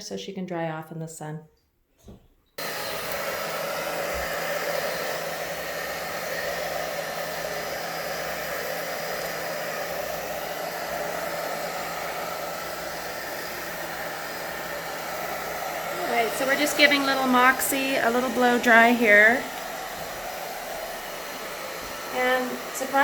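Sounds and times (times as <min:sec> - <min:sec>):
hair dryer running: 0:02.6 - 0:23.0.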